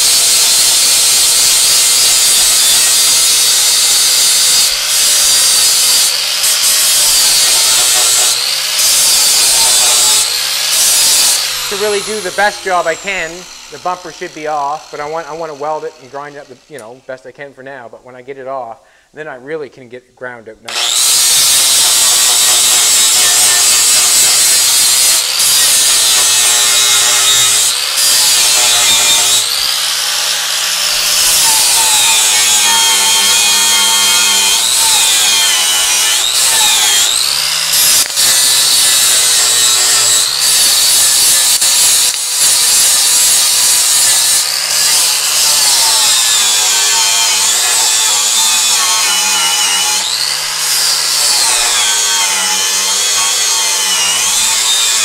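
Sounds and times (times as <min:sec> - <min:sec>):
angle grinder grinding steel: 0:00.0 - 0:17.2, 0:20.7 - 0:55.0.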